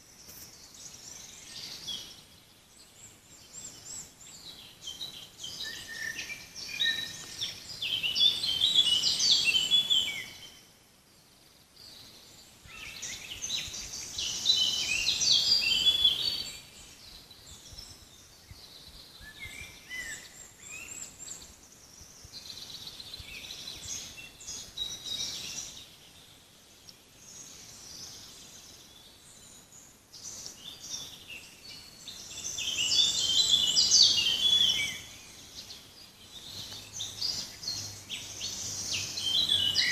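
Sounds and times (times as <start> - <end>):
songbird rapid high song: 0.0 - 39.9
birds chirping and calling: 3.1 - 10.6, 11.8 - 26.0, 26.8 - 39.9.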